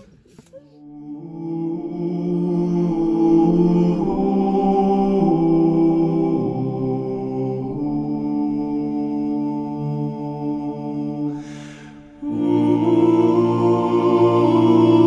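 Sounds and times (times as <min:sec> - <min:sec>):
choir singing held chords: 0:00.8 - 0:15.0.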